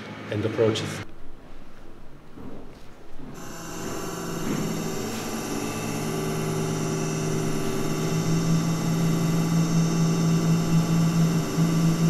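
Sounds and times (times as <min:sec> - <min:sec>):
low electronic drone: 0:00.8 - 0:12.0.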